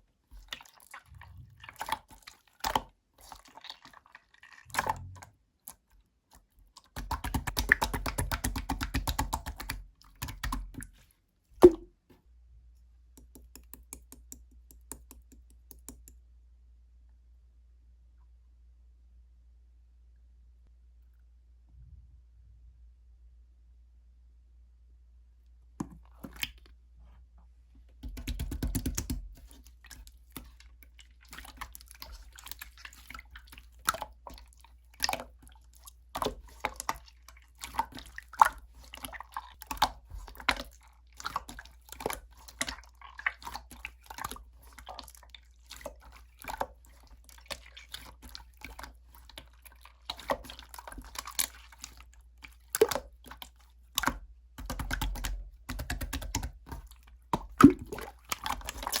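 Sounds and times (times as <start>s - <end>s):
slime squelch with low rumble: 0.0s - 59.0s.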